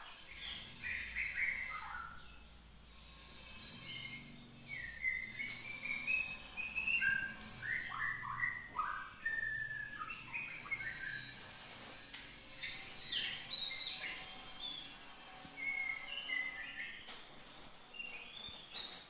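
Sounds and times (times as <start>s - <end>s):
songbird whistling and chirping: 0.3s - 2.4s, 3.6s - 11.5s, 12.1s - 19.0s.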